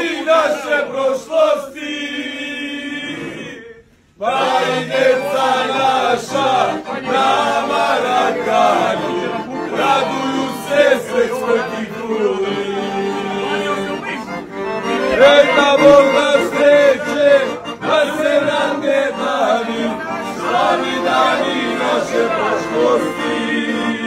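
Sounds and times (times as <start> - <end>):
men singing a chant: 0.0 - 14.4, 15.0 - 24.0.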